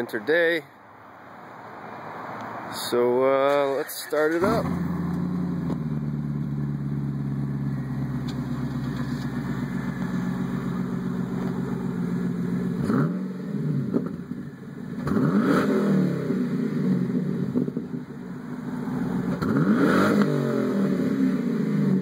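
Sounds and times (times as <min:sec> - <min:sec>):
car engine idling and revving: 0:01.0 - 0:22.0.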